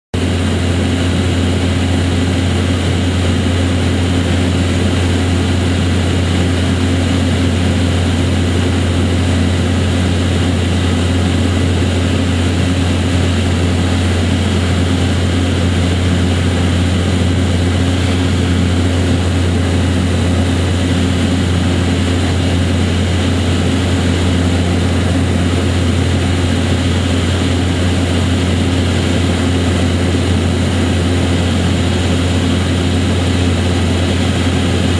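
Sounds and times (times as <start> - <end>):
low mechanical drone: 0.2 - 34.9.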